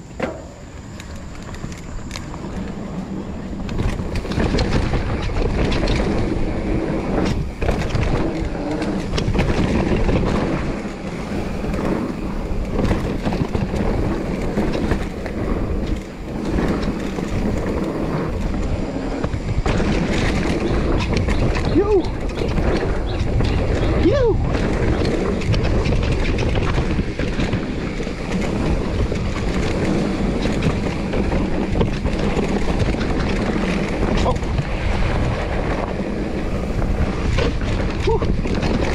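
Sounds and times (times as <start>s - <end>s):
bike rattling over bumps: 0.0s - 38.9s
bike tyres on packed dirt: 0.0s - 38.9s.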